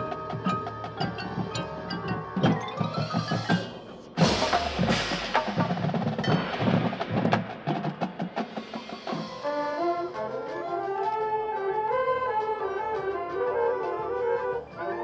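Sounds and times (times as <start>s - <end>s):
drums and percussion: 0.0s - 15.0s
marching band playing: 0.0s - 15.0s.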